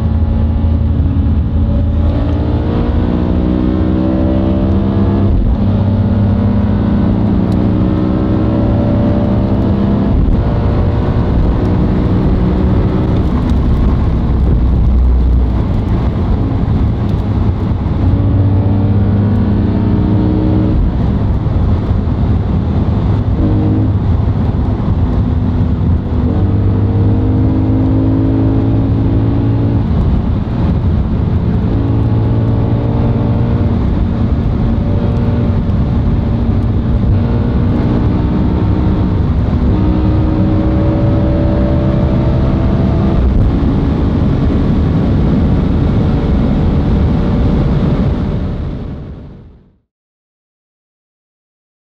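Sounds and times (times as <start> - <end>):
car engine accelerating hard: 0.0 - 49.2
road and wind noise: 0.0 - 49.9.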